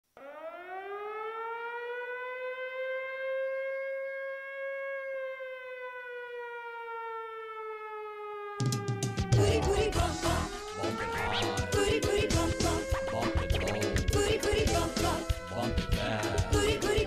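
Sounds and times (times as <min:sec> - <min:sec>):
siren wail: 0:00.2 - 0:17.0.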